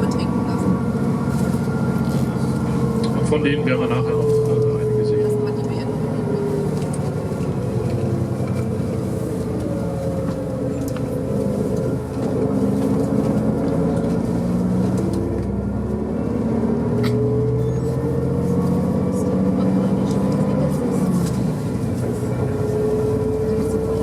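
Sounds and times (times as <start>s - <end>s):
road noise: 0.0s - 24.0s
vehicle engine: 0.0s - 24.0s.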